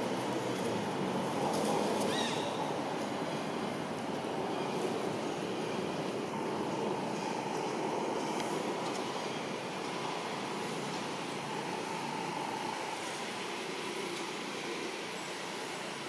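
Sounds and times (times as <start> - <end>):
constant hum-like hiss: 0.0 - 16.0.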